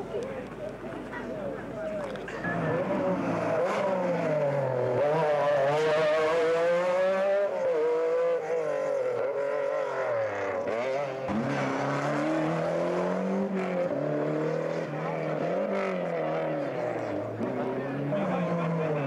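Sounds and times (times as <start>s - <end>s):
rally cars accelerating: 2.0s - 19.0s
rally car engine revving past: 2.5s - 19.0s.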